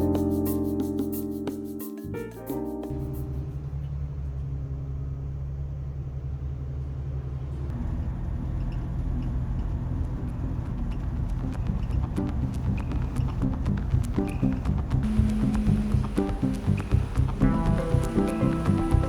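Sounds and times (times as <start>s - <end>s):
vehicle rumbling in motion: 2.9s - 19.0s.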